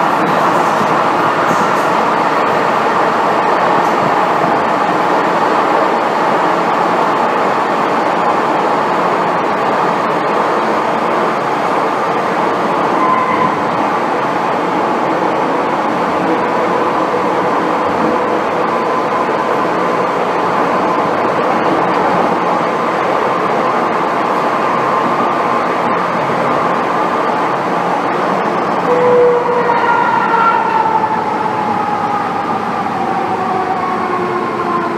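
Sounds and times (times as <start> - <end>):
train wheels rumbling: 0.0 - 34.9.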